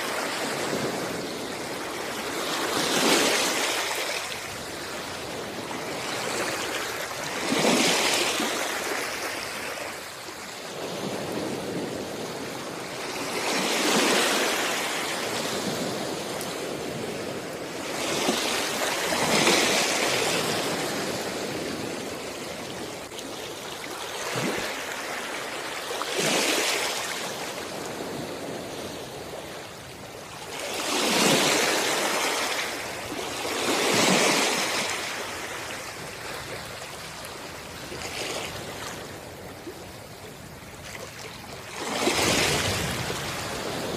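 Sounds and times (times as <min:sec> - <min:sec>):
sea waves breaking on a beach: 0:00.0 - 0:43.9.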